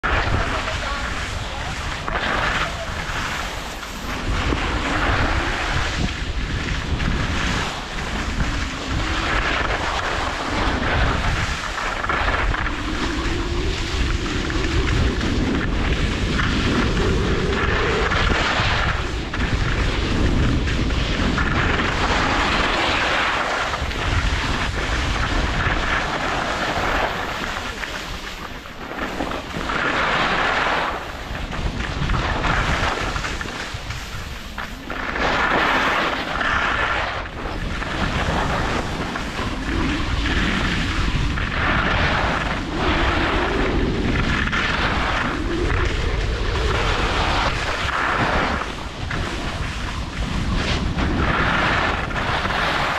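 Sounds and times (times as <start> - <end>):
skis scraping on snow: 0.0 - 52.9
wind buffeting microphone: 0.0 - 52.9.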